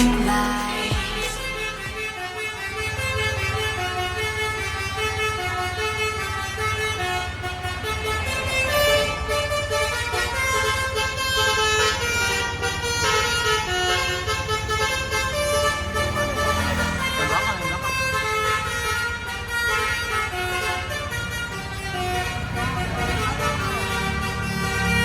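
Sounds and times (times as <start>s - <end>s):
bus engine rumble: 0.0s - 20.3s
musical bus horn tune: 0.0s - 25.0s.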